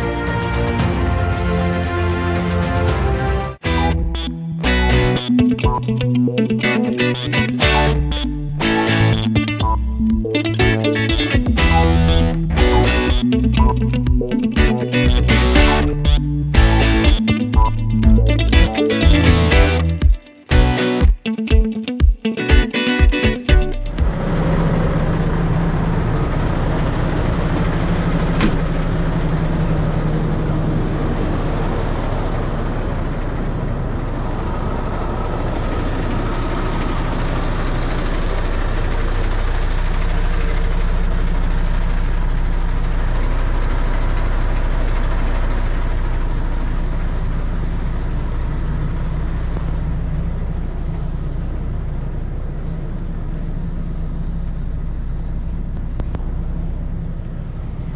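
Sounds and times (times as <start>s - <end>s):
diesel lorry engine idling: 3.6s - 20.0s, 23.6s - 57.9s.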